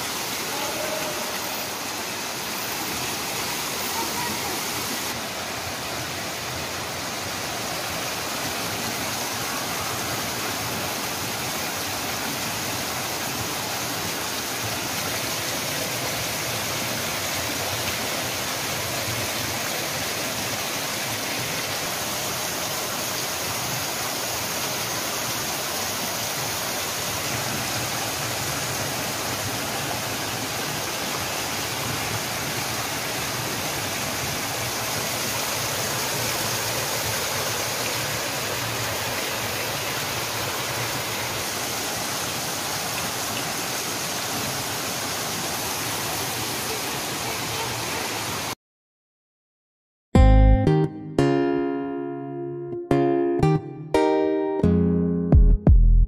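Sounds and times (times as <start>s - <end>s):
fountain water splashing: 0.0s - 48.6s.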